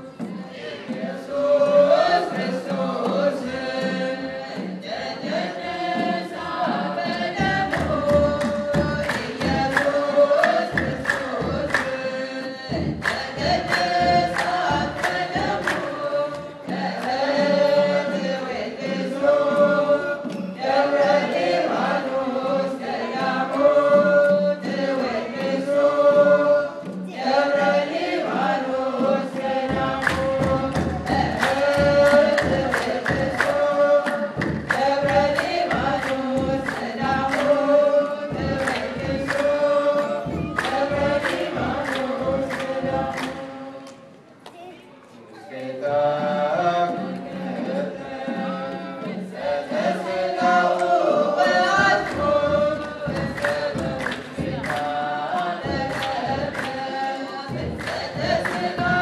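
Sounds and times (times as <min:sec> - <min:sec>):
sharp percussive strikes: 0:00.0 - 0:44.0, 0:46.4 - 0:59.0
church choir singing a hymn: 0:00.0 - 0:44.1, 0:45.4 - 0:59.0.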